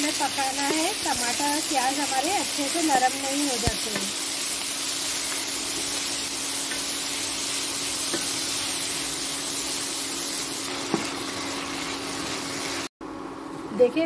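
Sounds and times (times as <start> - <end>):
food sizzling in hot oil: 0.0 - 12.9.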